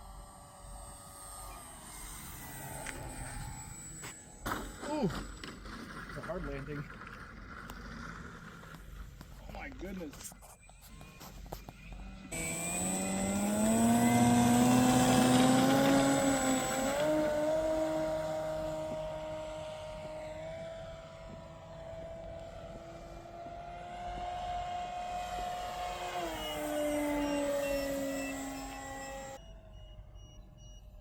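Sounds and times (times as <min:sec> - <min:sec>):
model airplane engine buzzing: 0:00.0 - 0:09.3, 0:10.9 - 0:29.7.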